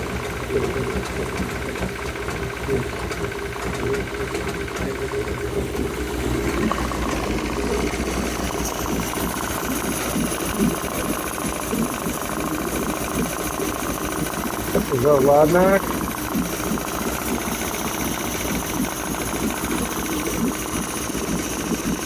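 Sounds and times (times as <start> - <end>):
outboard engine knocking: 0.0 - 22.0.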